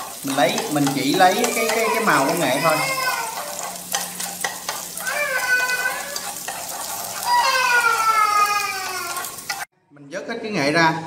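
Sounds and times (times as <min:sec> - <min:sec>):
turmeric sizzling in hot oil: 0:00.0 - 0:09.7
utensil clicking and scraping pan: 0:00.0 - 0:09.7.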